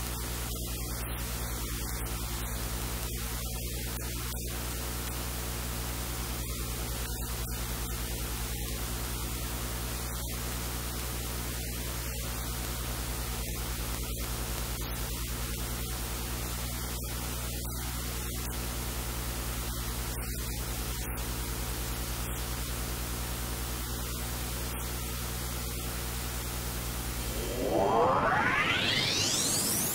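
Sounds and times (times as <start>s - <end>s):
static hiss: 0.0s - 29.9s.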